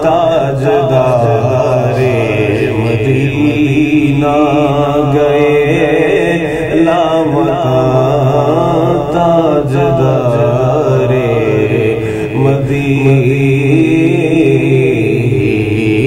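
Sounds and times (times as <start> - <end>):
man chanting devotional poem: 0.0 - 16.0.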